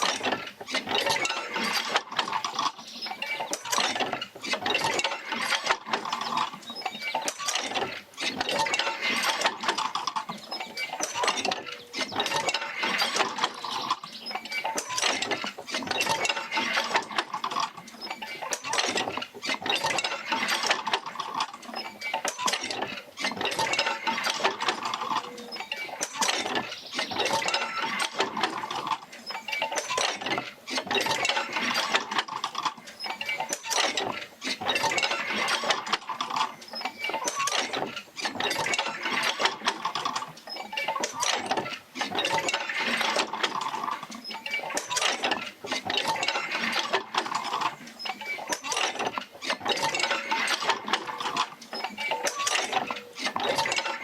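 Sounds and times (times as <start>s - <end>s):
field wheel rocking: 0.0s - 54.0s
jerker lines clanking and creaking: 0.0s - 54.0s.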